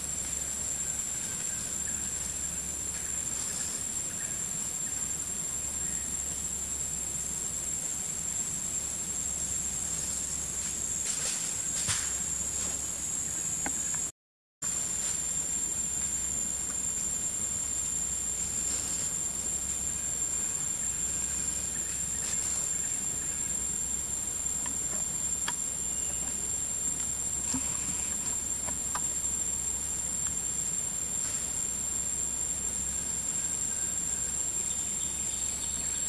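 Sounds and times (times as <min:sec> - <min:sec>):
insect chorus drone: 0:00.0 - 0:36.0.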